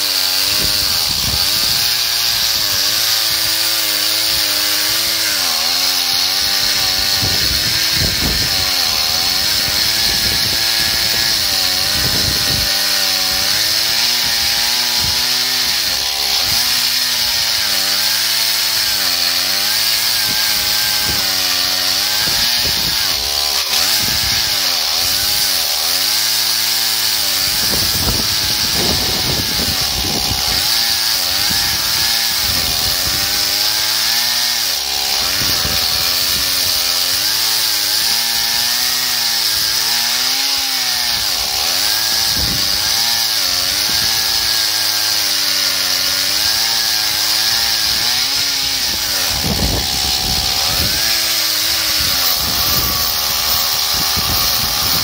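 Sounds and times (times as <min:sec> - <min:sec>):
chainsaw cutting log at full throttle: 0:00.0 - 0:55.0.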